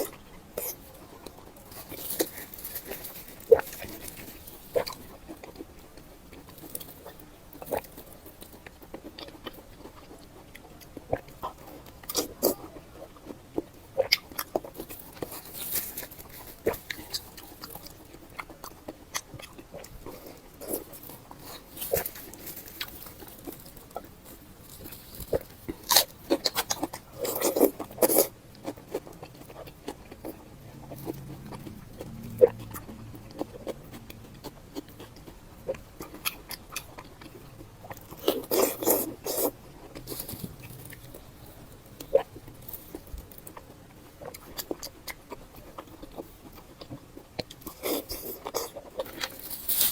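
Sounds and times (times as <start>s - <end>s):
chewing with wet smacks: 0.0s - 49.9s.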